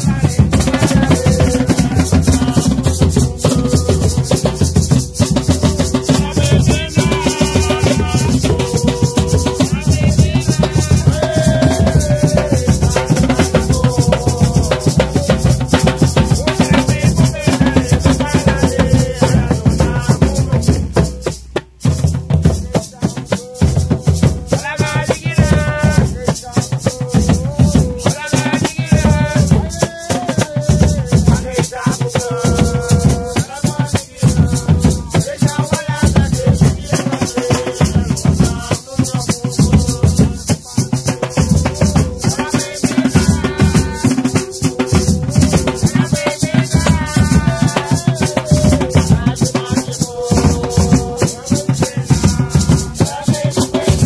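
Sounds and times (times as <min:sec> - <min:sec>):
gourd shakers: 0:00.0 - 0:54.0
hand drums fast rhythm: 0:00.0 - 0:54.0
people singing: 0:00.0 - 0:54.0.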